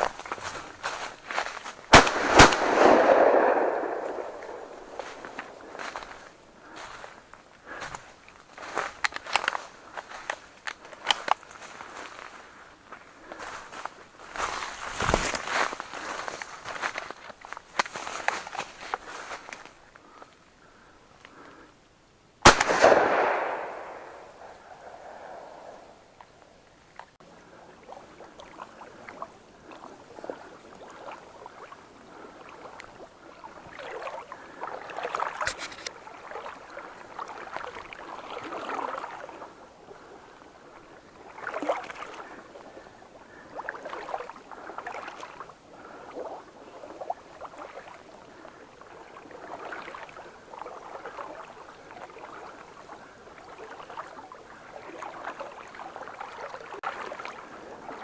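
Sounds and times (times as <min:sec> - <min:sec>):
water splashing and sloshing: 0:00.0 - 0:21.6, 0:22.5 - 0:58.0.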